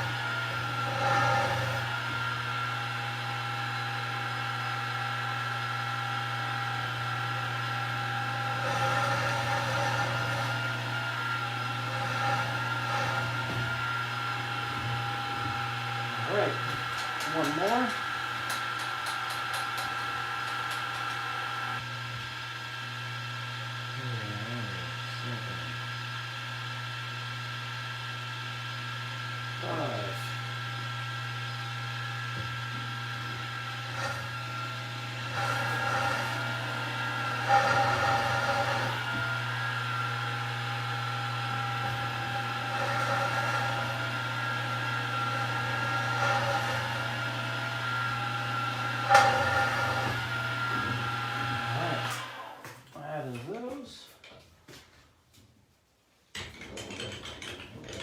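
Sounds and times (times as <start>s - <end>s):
milling machine hum and whine: 0.0s - 52.6s.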